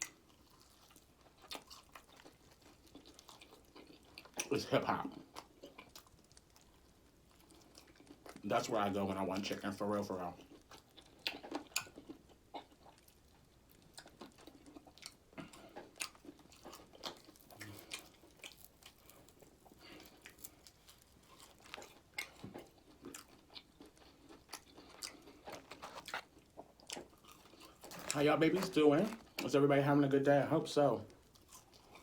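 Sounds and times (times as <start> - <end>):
chewing crunchy food: 0.0 - 29.8, 31.0 - 32.0.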